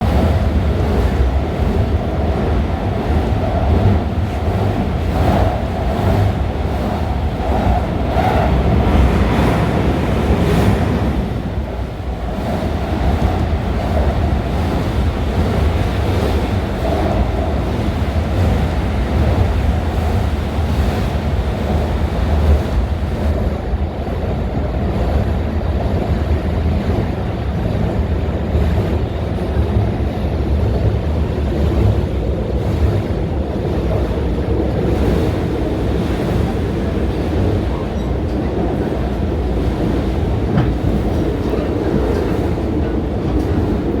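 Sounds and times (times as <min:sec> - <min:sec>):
electric train wheels rumbling on rail: 0:00.0 - 0:44.0.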